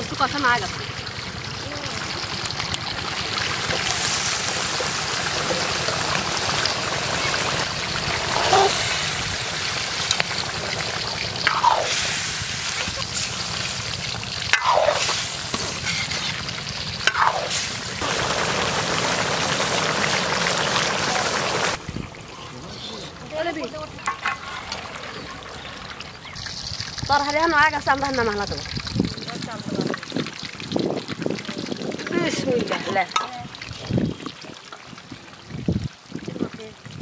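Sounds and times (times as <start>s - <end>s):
curry sizzling in oil: 0.0s - 35.9s.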